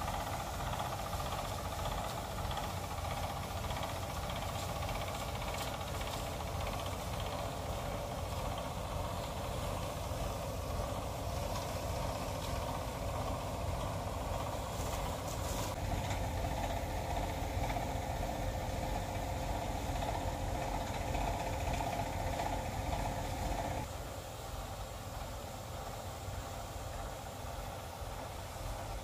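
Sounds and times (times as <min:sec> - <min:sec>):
tractor engine running: 0:00.0 - 0:23.9
hose spray gun spraying: 0:00.0 - 0:24.0.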